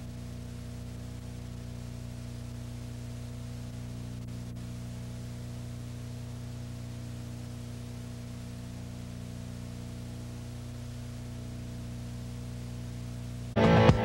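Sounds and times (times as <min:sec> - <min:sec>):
electrical hum with tones: 0:00.0 - 0:14.0
tape hiss: 0:00.0 - 0:14.0.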